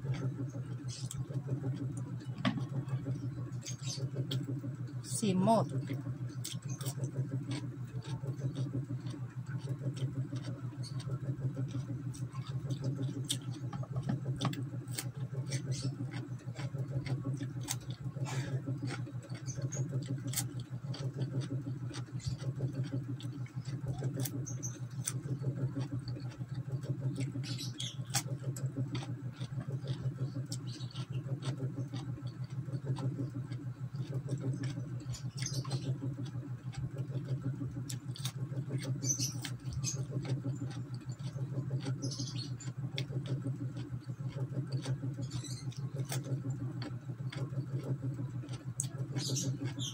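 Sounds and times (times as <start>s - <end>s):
chewing crisp cucumber: 0.0s - 49.9s
steady low hum: 0.0s - 49.9s.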